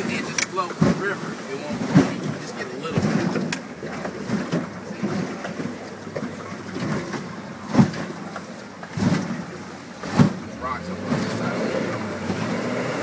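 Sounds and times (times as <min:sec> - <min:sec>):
boat engine drone: 0:00.0 - 0:13.0
rushing water: 0:00.0 - 0:13.0.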